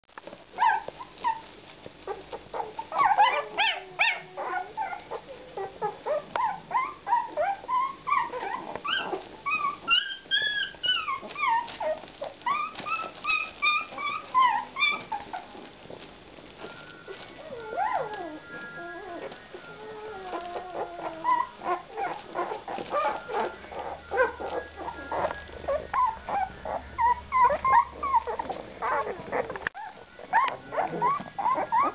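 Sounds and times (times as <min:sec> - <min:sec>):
puppies squeaking and whimpering: 0:00.6 - 0:31.9
puppy wailing: 0:00.6 - 0:31.9.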